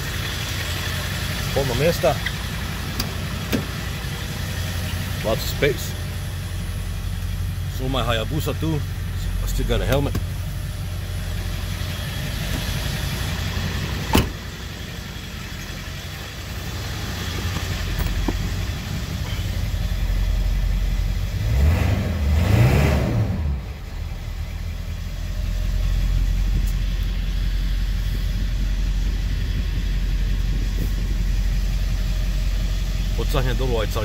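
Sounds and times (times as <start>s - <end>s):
diesel engine idling and revving: 0.0s - 34.0s.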